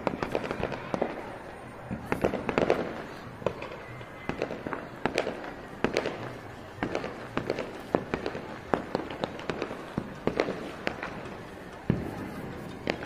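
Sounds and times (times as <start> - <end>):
firecrackers banging: 0.0 - 13.0.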